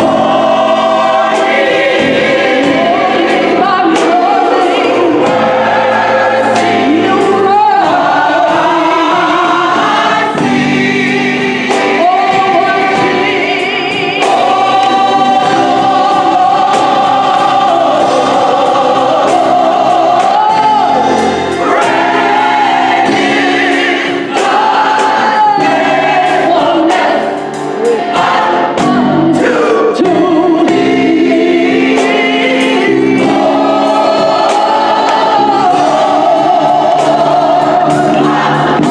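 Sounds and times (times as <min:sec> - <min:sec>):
drum kit: 0:00.0 - 0:38.9
gospel choir singing: 0:00.0 - 0:38.9
lead soloist singing: 0:00.0 - 0:38.9.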